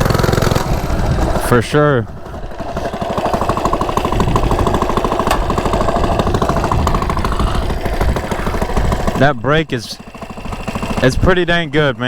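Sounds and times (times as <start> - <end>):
minibike engine idling: 0.0 - 12.0.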